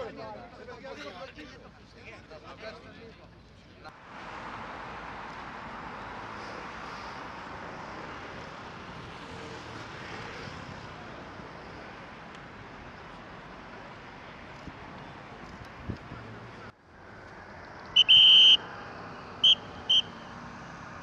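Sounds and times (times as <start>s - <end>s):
vehicle passing: 3.9s - 21.0s.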